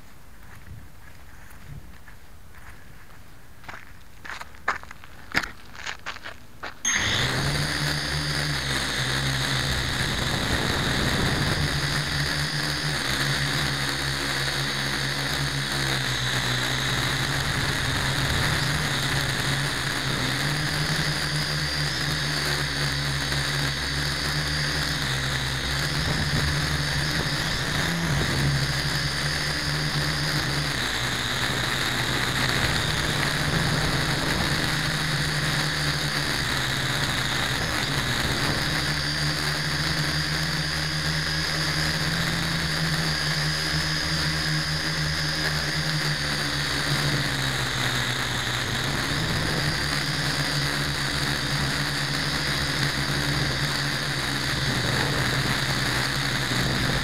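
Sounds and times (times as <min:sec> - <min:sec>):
drone motors whining: 0:06.9 - 0:57.0.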